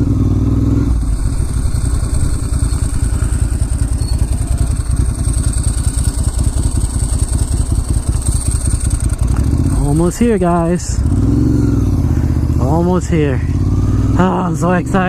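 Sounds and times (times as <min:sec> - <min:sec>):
motorcycle engine pulsing at low revs: 0:00.0 - 0:15.0.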